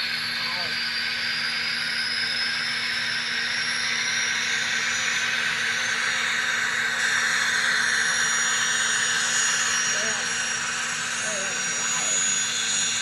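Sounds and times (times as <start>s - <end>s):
model locomotive turbine roar: 0.0s - 13.0s.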